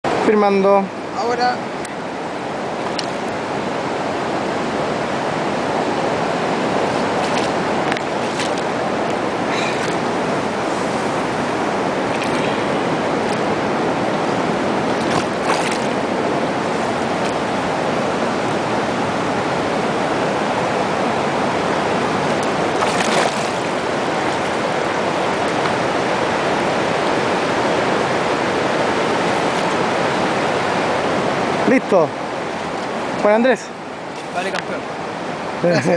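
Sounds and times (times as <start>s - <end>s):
river current rushing: 0.0s - 35.9s
water splashes: 0.1s - 35.9s.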